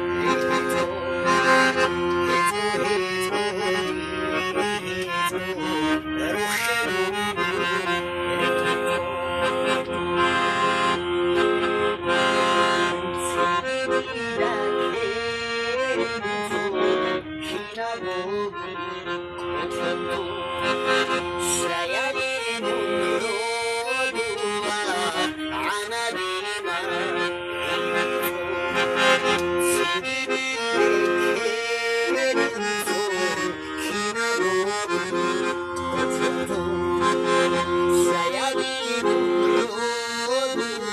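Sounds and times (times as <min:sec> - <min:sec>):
accordion playing folk tune: 0:00.0 - 0:40.9.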